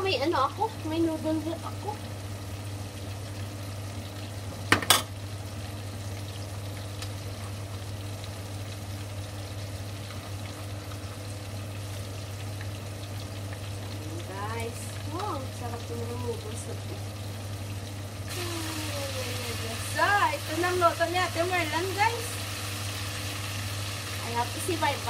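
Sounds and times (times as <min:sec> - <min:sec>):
noodles sizzling in a frying pan: 0:00.0 - 0:25.0.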